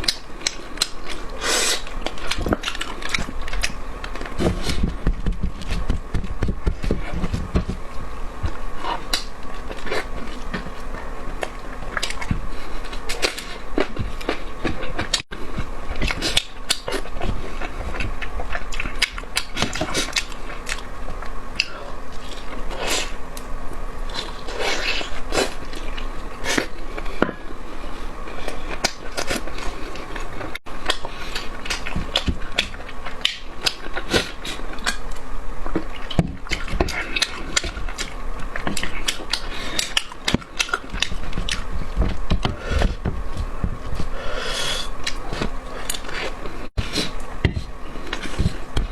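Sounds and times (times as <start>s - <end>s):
wet chewing and lip-smacking: 0.0s - 7.7s, 8.4s - 23.5s, 28.3s - 44.1s, 44.8s - 48.9s
faint steady hum: 0.0s - 48.9s.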